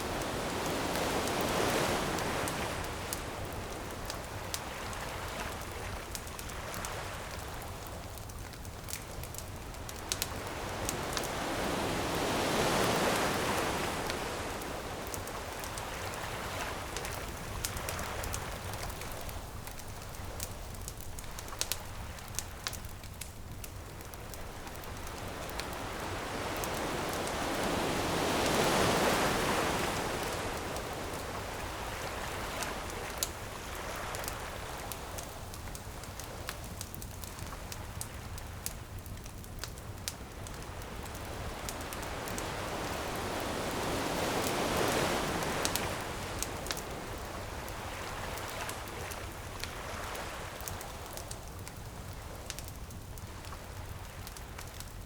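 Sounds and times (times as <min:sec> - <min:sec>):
bonfire crackling and popping: 0:00.0 - 0:55.0
ocean waves washing ashore: 0:00.0 - 0:55.0.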